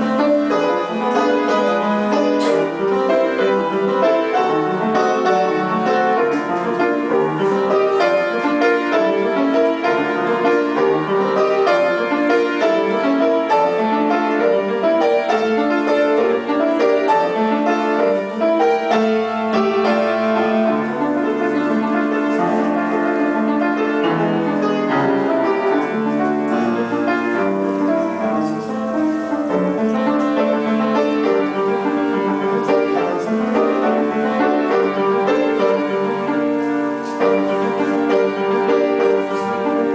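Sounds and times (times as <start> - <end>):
piano piece: 0.0 - 39.9.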